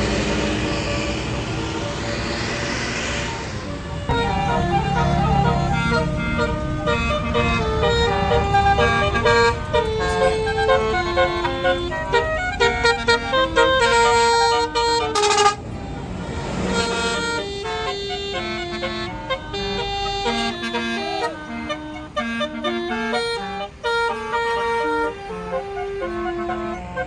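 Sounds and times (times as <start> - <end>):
bus engine rumble: 0.0 - 27.0
bus horn playing a tune: 0.0 - 27.0.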